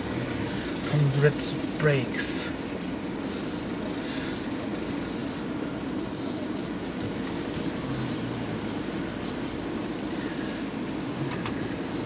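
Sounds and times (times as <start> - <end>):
car engine and tyres humming: 0.0 - 12.0.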